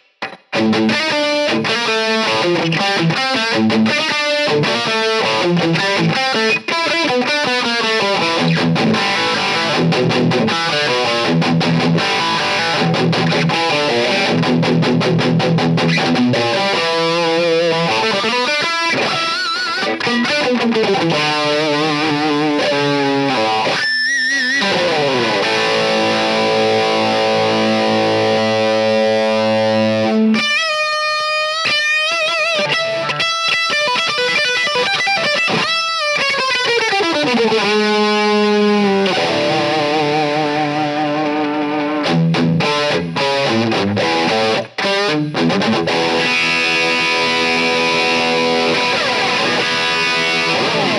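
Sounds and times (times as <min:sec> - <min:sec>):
distorted electric guitar lead: 0:00.0 - 0:50.9.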